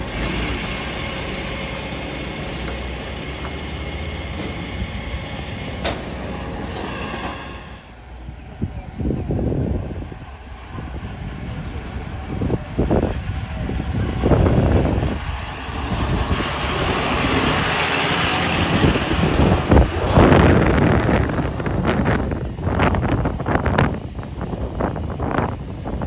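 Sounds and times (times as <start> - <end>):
diesel truck engine running: 0.0 - 6.8, 7.4 - 26.0.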